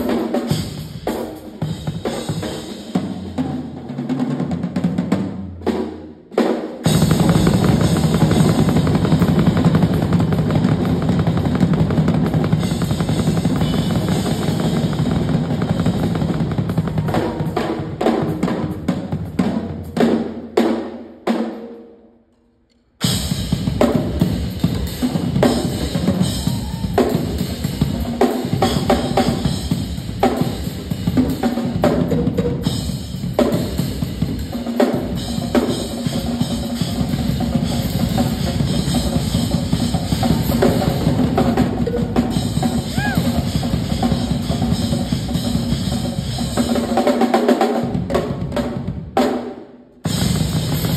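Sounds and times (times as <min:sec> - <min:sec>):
drum kits playing: 0:00.0 - 0:21.7, 0:23.0 - 0:50.9.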